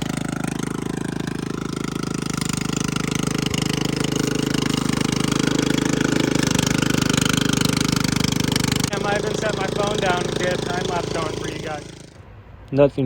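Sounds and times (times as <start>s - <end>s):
mower engine chugging: 0.0s - 12.3s.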